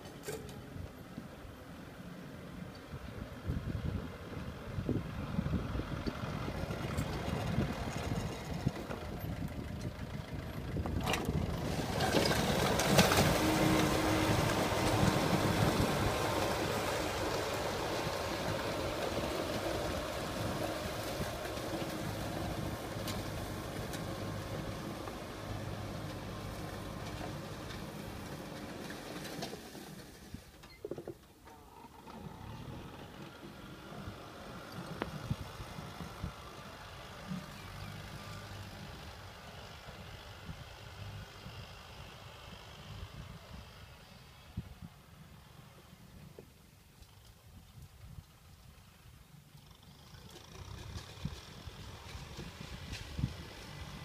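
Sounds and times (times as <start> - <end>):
tractor diesel engine: 0.0 - 44.4, 48.1 - 54.0.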